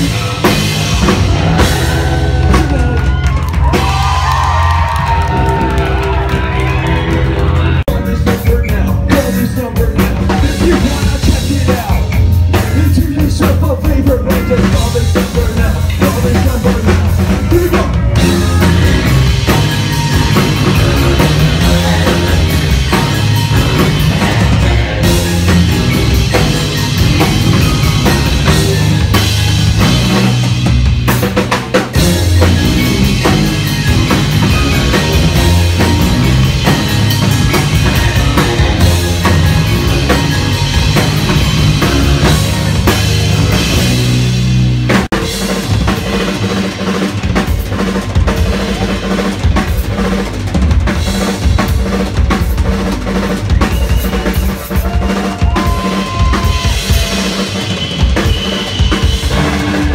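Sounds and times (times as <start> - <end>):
distorted bass guitar: 0.0 - 54.2, 58.0 - 59.9
drum kit playing: 0.0 - 59.9.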